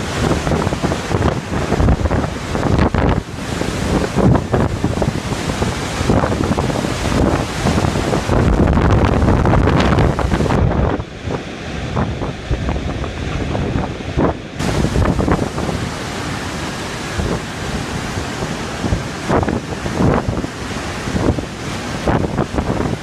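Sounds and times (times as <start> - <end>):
wind gusting on microphone: 0.0 - 23.0.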